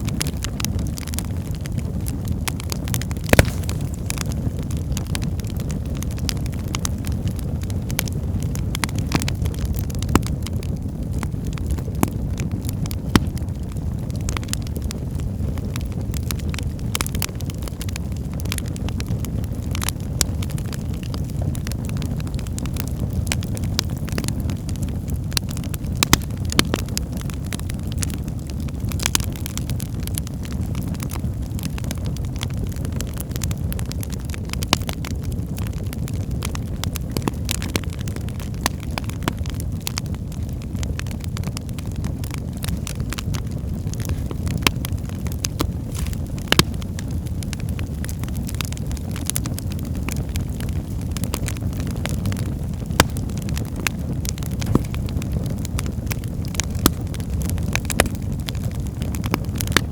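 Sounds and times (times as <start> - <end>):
fire crackling and popping: 0.0 - 59.9
fire rumbling in fireplace: 0.0 - 59.9.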